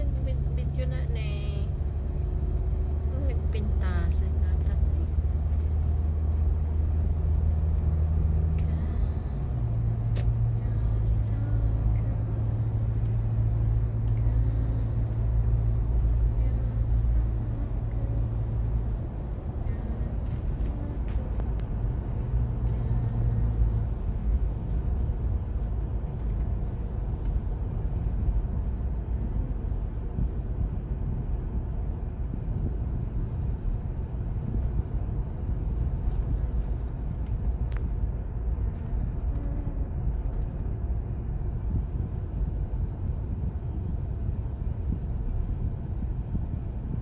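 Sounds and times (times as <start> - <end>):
car road and engine noise: 0.0 - 47.0.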